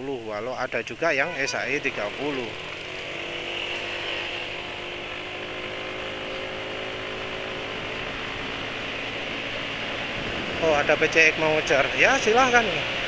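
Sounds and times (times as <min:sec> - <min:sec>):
road noise: 0:00.0 - 0:13.0
motor scooter engine running: 0:01.2 - 0:13.0.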